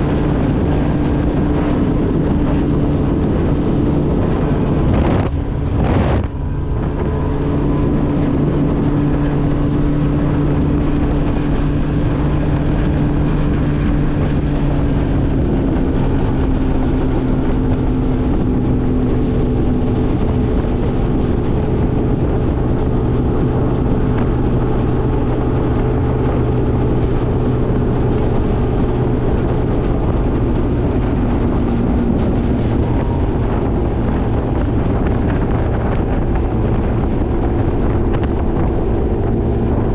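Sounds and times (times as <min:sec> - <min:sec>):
outboard motor running: 0:00.0 - 0:39.9
wind noise on microphone: 0:00.0 - 0:39.9.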